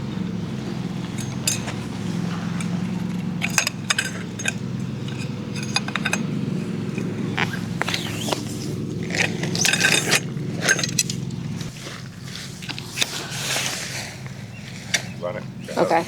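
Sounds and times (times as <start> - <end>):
small hard objects clinking: 0.0 - 14.1.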